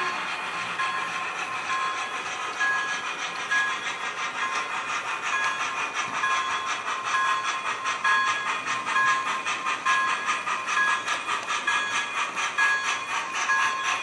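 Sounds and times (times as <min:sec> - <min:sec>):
rapid steam chuffing: 0:00.0 - 0:14.0.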